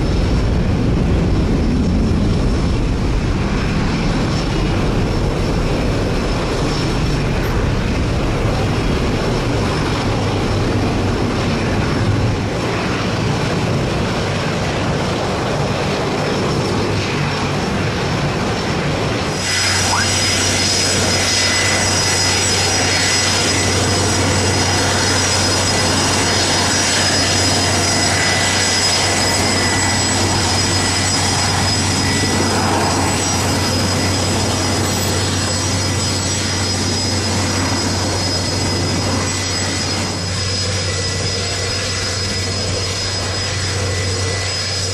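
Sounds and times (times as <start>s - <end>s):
high even whine: 0.0s - 44.9s
jet engines rumbling: 0.0s - 44.9s.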